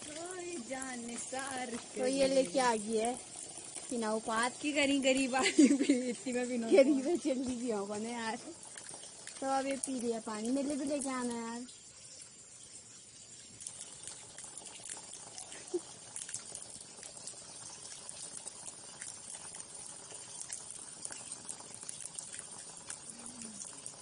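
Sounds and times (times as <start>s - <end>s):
water trickling and splashing on stone: 0.0s - 24.0s.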